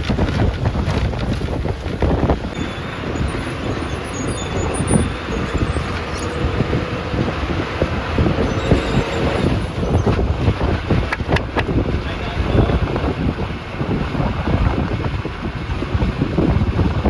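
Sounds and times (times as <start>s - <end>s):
bus body rattling: 0.0s - 15.0s
bus engine and road rumble: 0.0s - 17.0s.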